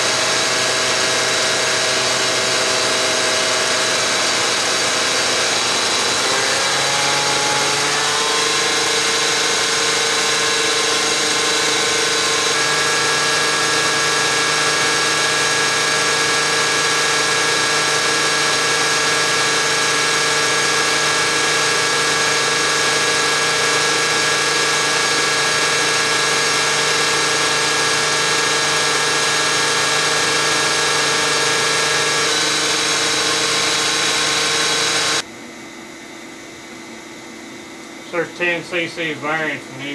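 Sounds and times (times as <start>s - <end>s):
injection pump test machine running: 0.0s - 39.9s.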